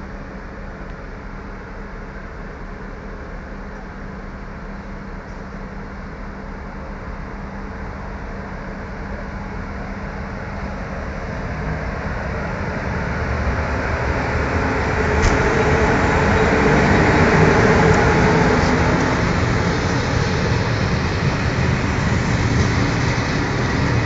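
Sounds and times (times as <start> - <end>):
locomotive low hum: 0.0 - 24.0
train wheel and running noise: 0.0 - 24.0.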